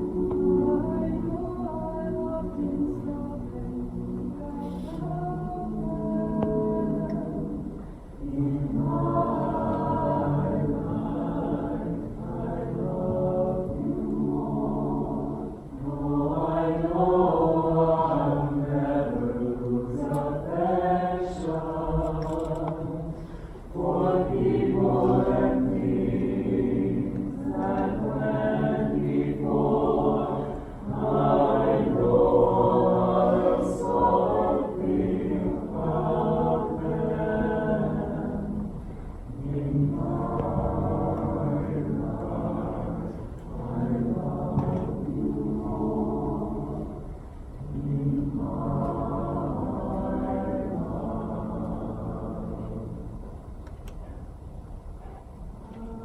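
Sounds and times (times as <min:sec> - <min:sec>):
choir singing: 0:00.0 - 0:53.4, 0:55.6 - 0:56.0.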